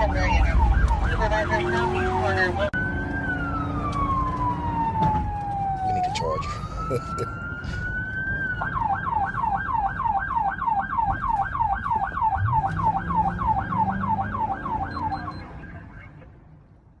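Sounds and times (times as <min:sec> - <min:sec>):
police siren yelping: 0:00.1 - 0:15.8.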